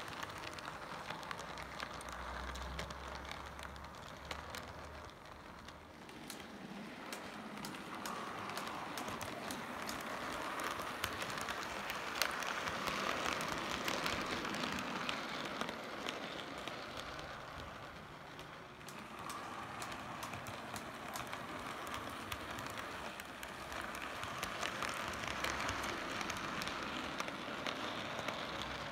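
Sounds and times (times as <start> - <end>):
model train motor whir: 0.0 - 28.9
wheels clicking over rail joints: 0.0 - 28.9.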